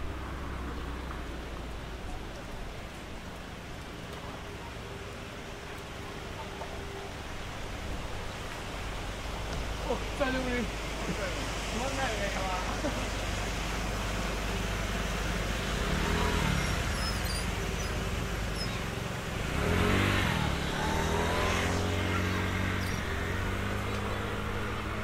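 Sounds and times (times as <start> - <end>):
background rushing noise: 0.0 - 25.0.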